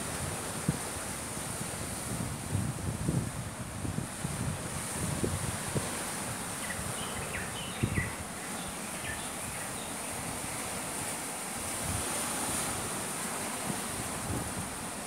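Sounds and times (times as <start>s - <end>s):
sea surf: 0.0s - 15.0s
wind buffeting microphone: 0.1s - 11.0s, 11.6s - 15.0s.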